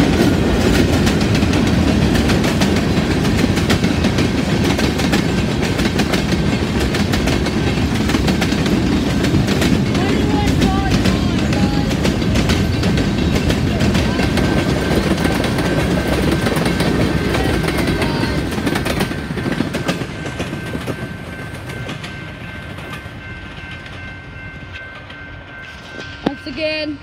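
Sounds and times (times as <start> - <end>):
wheels clicking over rail joints: 0.0 - 24.1
freight train rumbling past: 0.0 - 27.0.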